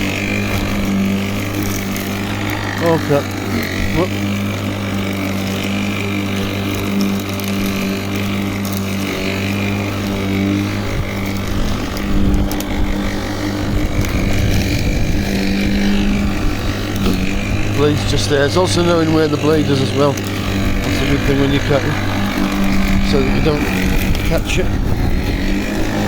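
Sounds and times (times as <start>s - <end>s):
electric lawnmower motor hum: 0.0s - 26.0s.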